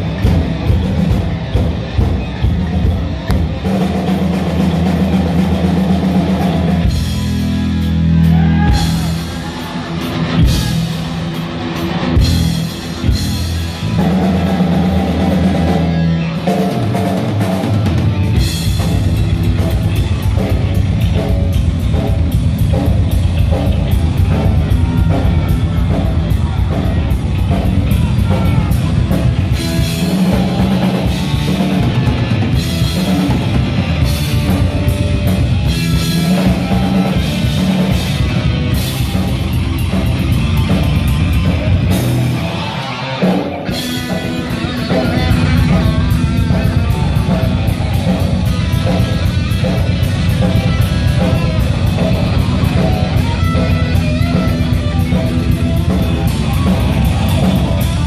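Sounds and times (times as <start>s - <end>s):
fast drum beat: 0.0s - 42.6s, 43.3s - 58.0s
heavy metal band playing live: 0.0s - 58.0s.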